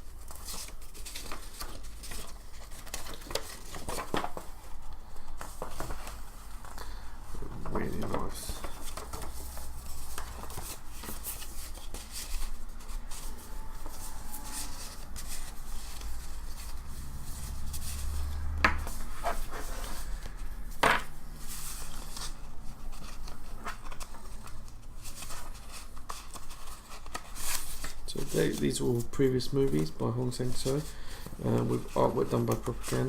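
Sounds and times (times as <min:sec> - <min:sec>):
paper rustling: 0:00.0 - 0:33.0.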